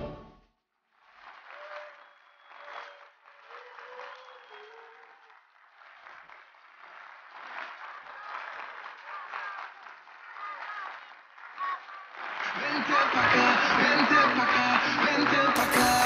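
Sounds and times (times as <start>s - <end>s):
studio audience applauding: 0.8s - 16.0s.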